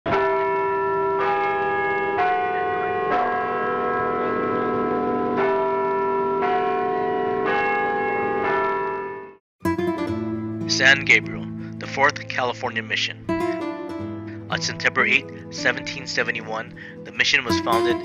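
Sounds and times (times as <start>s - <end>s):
church bells ringing: 0.1s - 9.4s, 11.0s - 18.0s.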